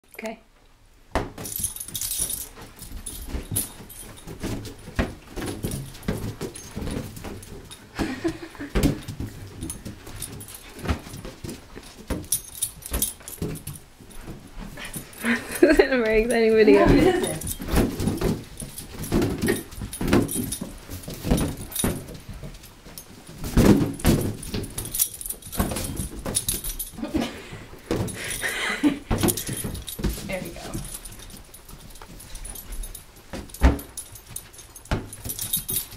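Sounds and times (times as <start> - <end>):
collar tags jingling: 1.3 - 35.9.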